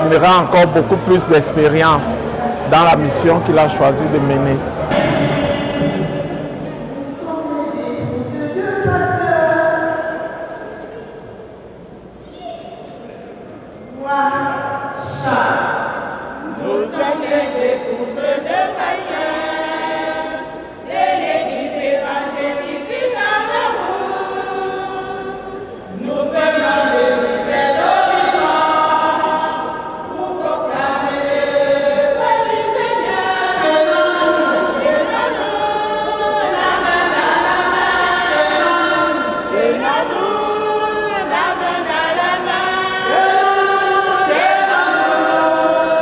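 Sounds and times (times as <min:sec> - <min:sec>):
women singing a hymn in chorus: 0:00.0 - 0:12.0, 0:13.8 - 0:46.0.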